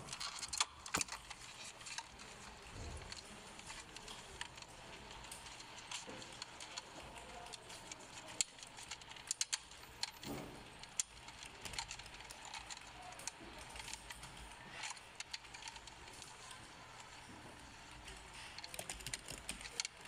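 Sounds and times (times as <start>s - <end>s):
plastic clicks and rattling: 0.0s - 20.0s.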